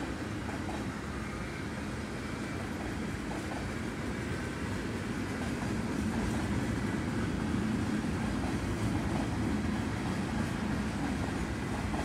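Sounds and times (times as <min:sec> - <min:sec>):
freight train wheels rumbling on rail: 0:00.0 - 0:12.0.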